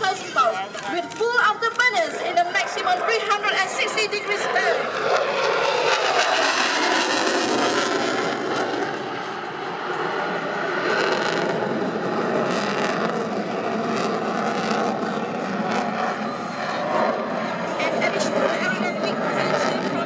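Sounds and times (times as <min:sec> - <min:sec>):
jet engine crackles: 0:00.0 - 0:20.0
jet engines roaring: 0:00.0 - 0:20.0.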